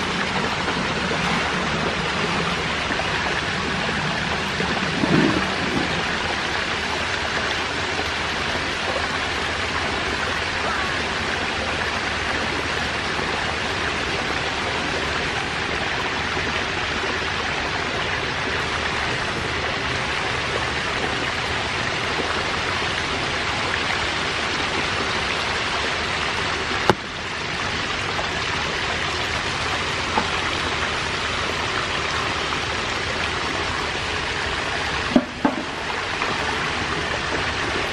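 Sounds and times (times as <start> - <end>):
water running from a pipe: 0.0 - 37.9
water splashing in a tank: 0.0 - 37.9.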